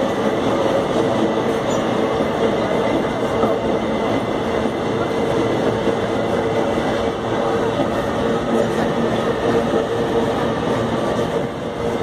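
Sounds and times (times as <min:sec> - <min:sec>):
train rolling on rails: 0:00.0 - 0:12.0.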